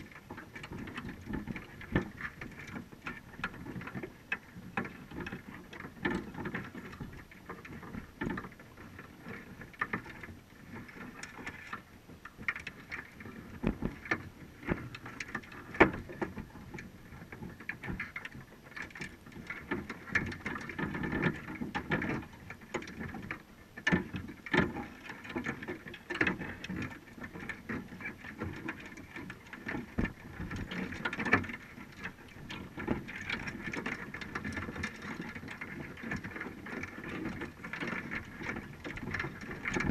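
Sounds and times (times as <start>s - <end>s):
muffled underwater water noise: 0.0s - 39.9s.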